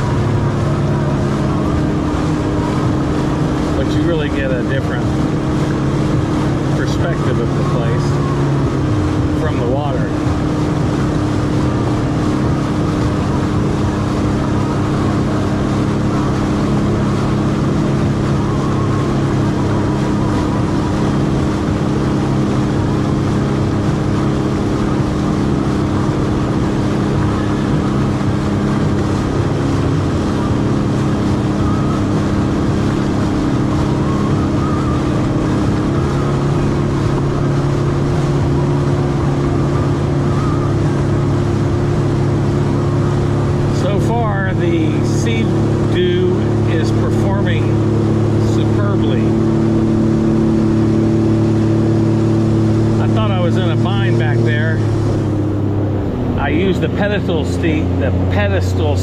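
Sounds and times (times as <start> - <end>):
jet ski engine drone: 0.0 - 59.0.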